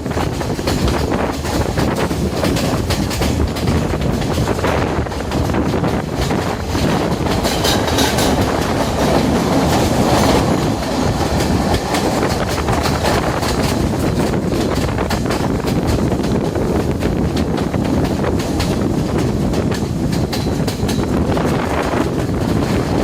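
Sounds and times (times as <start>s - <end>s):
train rumble: 0.0s - 23.0s
train wheels clacking on rails: 0.0s - 23.0s.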